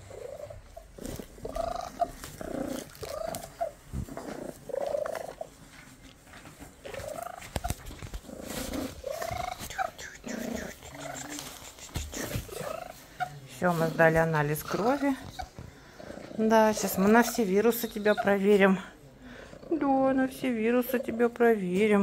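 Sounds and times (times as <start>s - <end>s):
cat purring: 0.0s - 21.6s.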